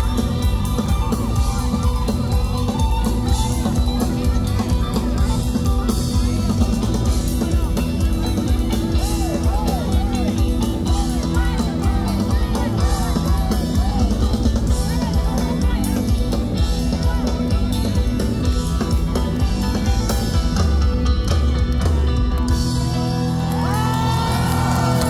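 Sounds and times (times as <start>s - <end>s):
person singing: 0.0s - 20.4s
drum-kit beat: 0.0s - 25.0s
electric guitar: 0.0s - 25.0s.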